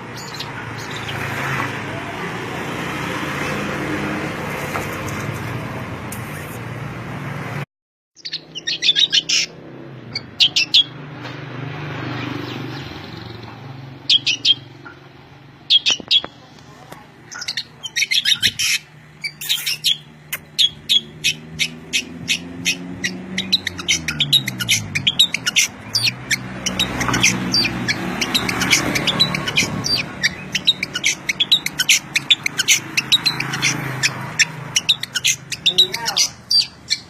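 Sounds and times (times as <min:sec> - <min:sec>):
songbird chirping: 0:00.0 - 0:01.6, 0:08.2 - 0:11.0, 0:11.7 - 0:37.0.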